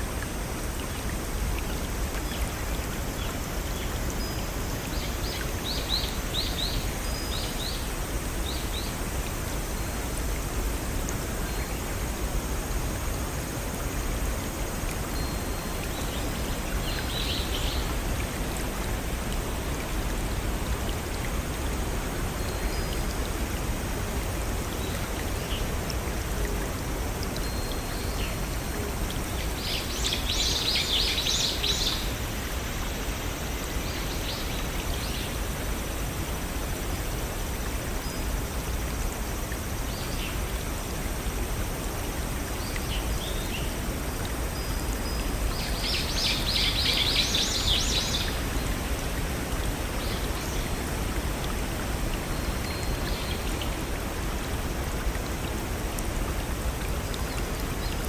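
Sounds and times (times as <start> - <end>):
waterfall and brook flowing: 0.0 - 58.0.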